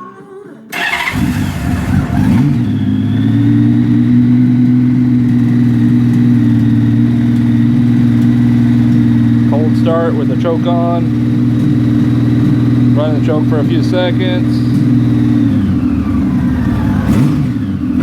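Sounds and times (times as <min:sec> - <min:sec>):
motorcycle engine starting and idling: 0:00.7 - 0:18.0.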